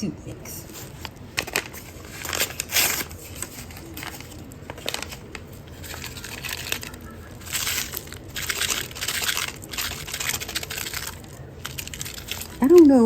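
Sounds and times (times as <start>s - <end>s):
packet crinkling: 0.6s - 13.0s.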